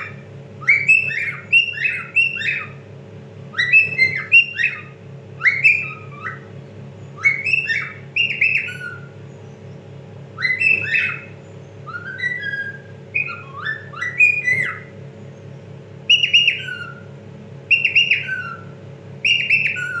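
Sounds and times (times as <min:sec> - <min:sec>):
cockatiel whistling song: 0:00.0 - 0:02.9, 0:03.5 - 0:09.2, 0:10.3 - 0:15.0, 0:16.0 - 0:20.0
steady low hum: 0:00.0 - 0:20.0.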